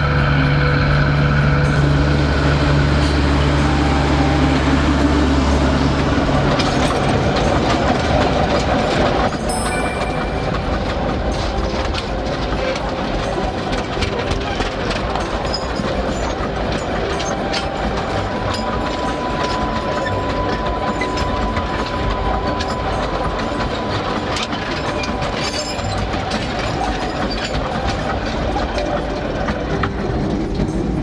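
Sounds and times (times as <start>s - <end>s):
steady whine: 0.0s - 31.0s
train wheels clicking over rail joints: 1.8s - 31.0s.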